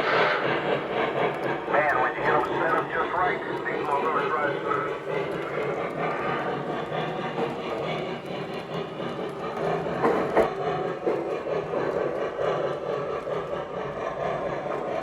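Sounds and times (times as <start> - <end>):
model train rolling rumble: 0.0 - 15.0.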